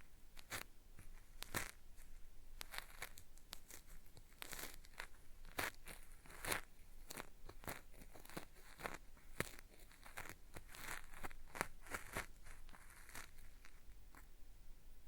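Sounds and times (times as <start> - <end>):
cotton swab scraping microphone: 0.0 - 14.3.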